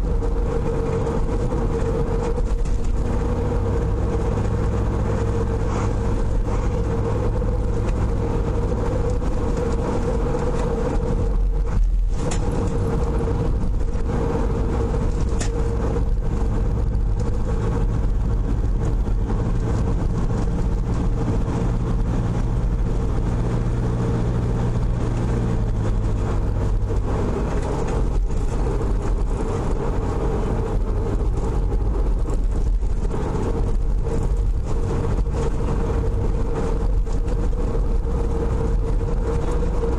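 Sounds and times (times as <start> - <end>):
car engine drone: 0.0 - 39.9
tyre noise on road: 0.0 - 39.9.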